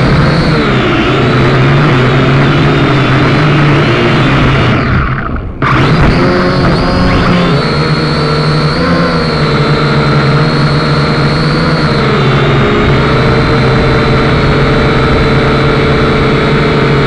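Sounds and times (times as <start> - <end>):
aircraft motors and propellers whining: 0.0 - 17.0.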